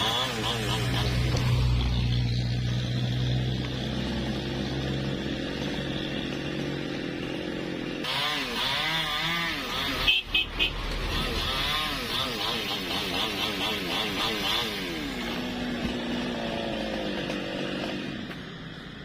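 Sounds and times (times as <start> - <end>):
chainsaw running: 0.0 - 18.9.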